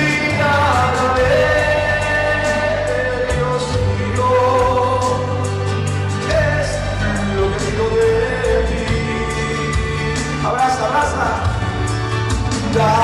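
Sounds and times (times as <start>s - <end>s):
man singing into microphone: 0.0s - 11.8s, 12.5s - 13.0s
backing music with bass and percussion: 0.0s - 13.0s.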